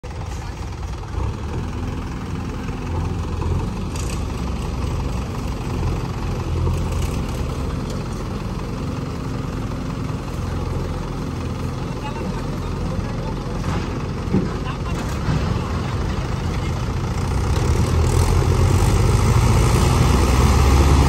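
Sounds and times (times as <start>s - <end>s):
diesel engine running at low revs: 0.0s - 21.0s.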